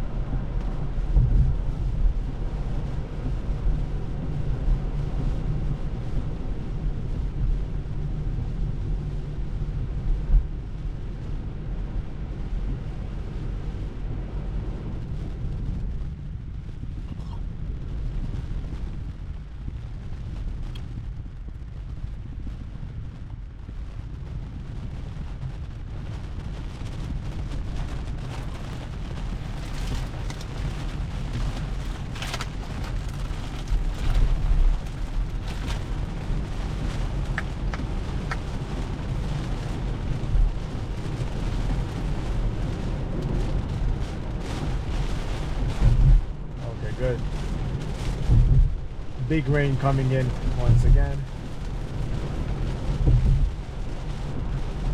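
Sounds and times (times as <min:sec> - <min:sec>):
tyres rumbling on wet road: 0:00.0 - 0:54.9.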